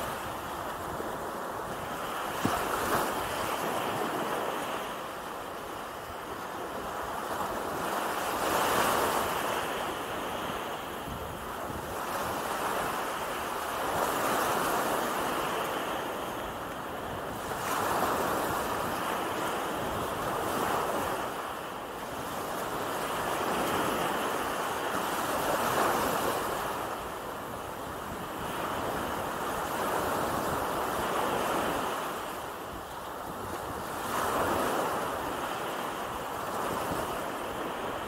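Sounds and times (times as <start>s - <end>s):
small waves washing up beach: 0.0s - 38.0s.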